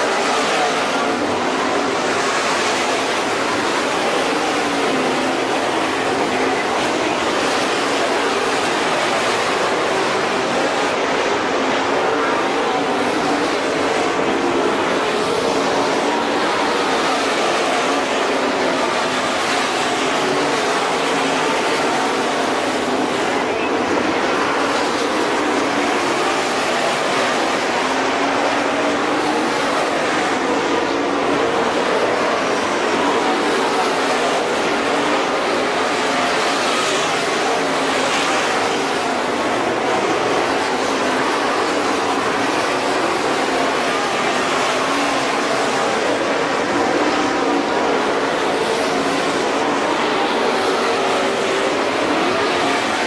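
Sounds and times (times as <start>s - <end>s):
race car engines at speed: 0.0s - 53.0s.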